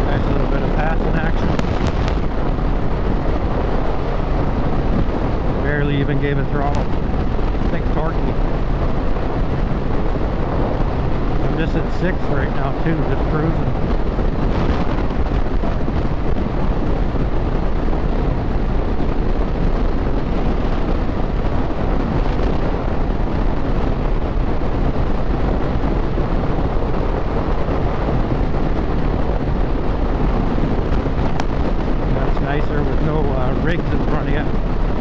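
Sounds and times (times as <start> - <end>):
wind noise on microphone: 0.0 - 35.0.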